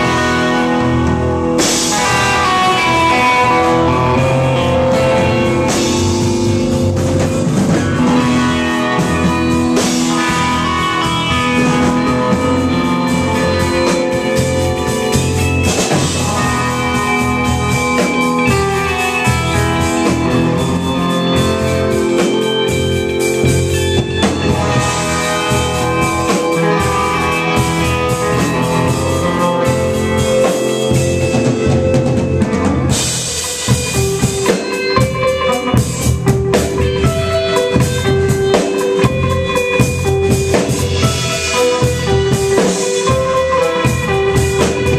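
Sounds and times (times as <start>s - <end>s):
live band playing loud music: 0.0s - 44.9s.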